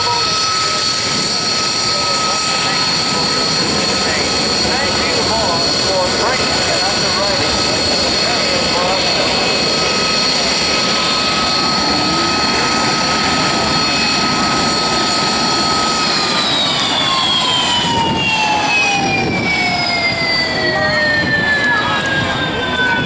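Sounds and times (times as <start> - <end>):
jet engine roar and whine: 0.0 - 23.0.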